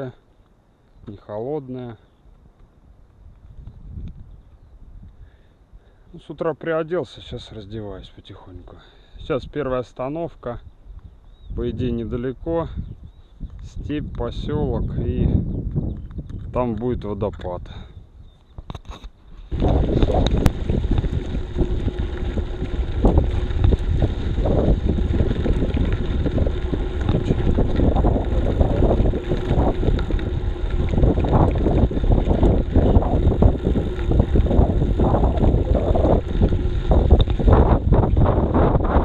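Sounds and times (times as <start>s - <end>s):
wind buffeting microphone: 2.3s - 5.8s, 10.6s - 39.0s.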